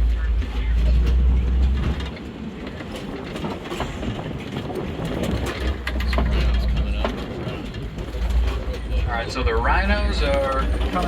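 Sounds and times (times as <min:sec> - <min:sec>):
vehicle body rattles and knocks: 0:00.0 - 0:11.0
vehicle low rumble: 0:00.0 - 0:11.0.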